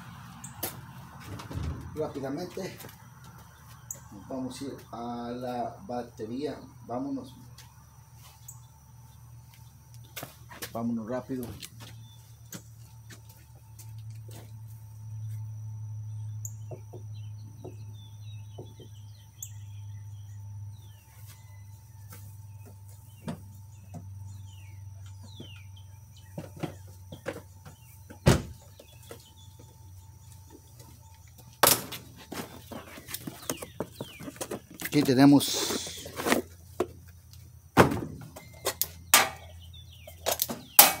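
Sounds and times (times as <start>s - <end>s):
birds chirping: 0.0s - 41.0s
steady low hum: 0.0s - 41.0s.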